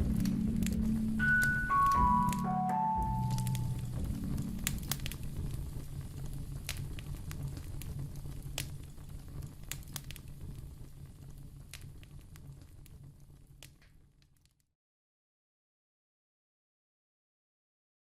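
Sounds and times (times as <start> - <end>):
wood fire crackling: 0.0 - 14.7.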